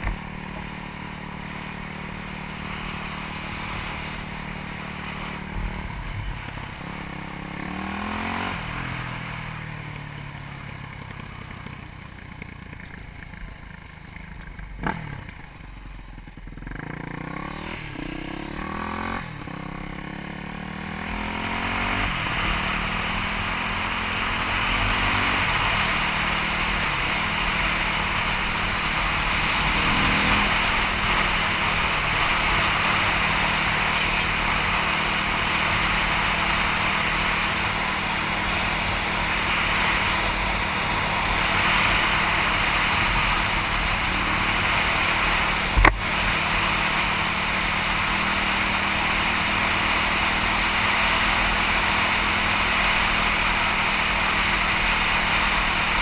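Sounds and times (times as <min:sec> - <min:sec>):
dirt bike engine cruising: 0:00.0 - 0:56.0.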